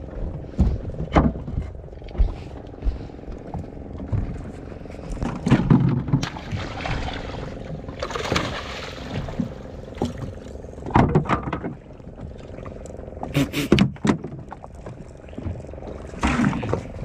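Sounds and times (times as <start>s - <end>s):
boat engine hum: 0.0s - 17.0s
water splashing against boat: 0.0s - 17.0s.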